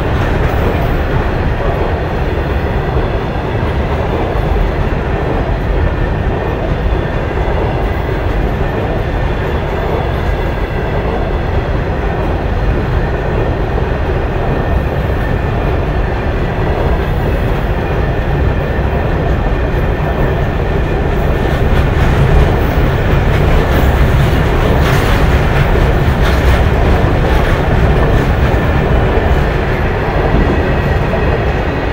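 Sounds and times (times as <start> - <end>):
clickety-clack over rail joints: 0.0 - 31.9
train wheels rumbling on rails: 0.0 - 31.9.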